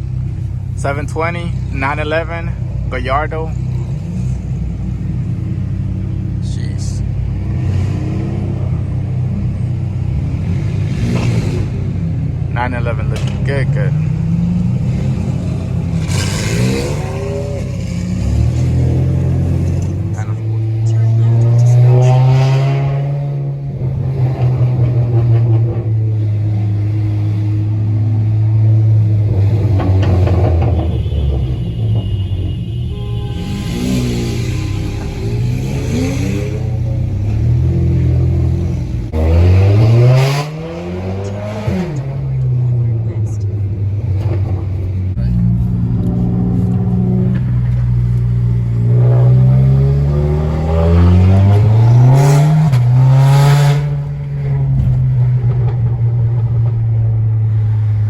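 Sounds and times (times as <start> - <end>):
car engine revving: 0.0 - 58.0
traffic engines droning: 0.0 - 58.0.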